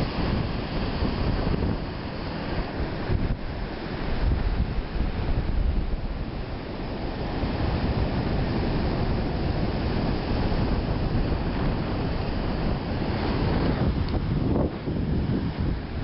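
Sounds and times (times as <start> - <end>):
small waves washing on sand: 0.0 - 16.0
wind buffeting microphone: 0.0 - 16.0.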